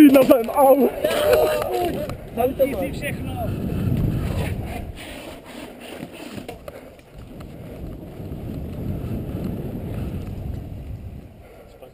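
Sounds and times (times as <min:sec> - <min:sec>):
wind rumble on microphone: 0:00.0 - 0:05.4, 0:06.4 - 0:11.9.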